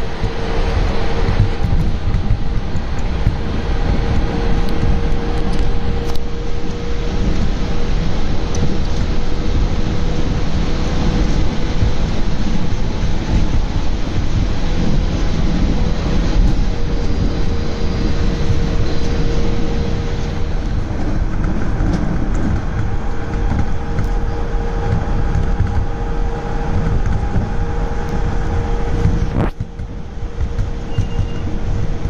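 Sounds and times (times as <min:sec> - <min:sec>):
train motor hum: 0:00.0 - 0:32.0
train wheels rumbling on rails: 0:00.0 - 0:32.0.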